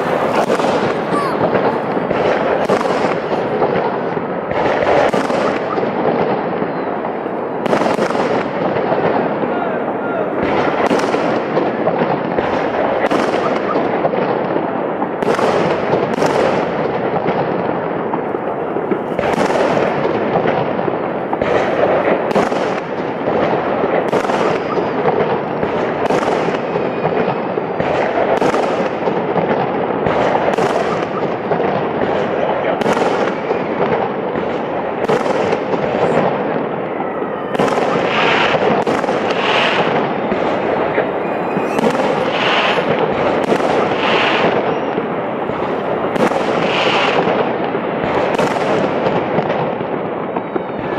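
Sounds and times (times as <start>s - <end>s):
fireworks bursting with bangs: 0.0s - 50.9s
steady continuous din: 0.0s - 50.9s.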